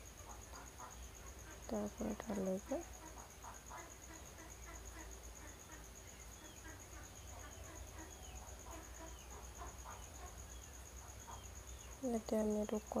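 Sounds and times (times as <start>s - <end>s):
crickets trilling: 0.0s - 13.0s
soft ticks and chirps: 0.0s - 13.0s.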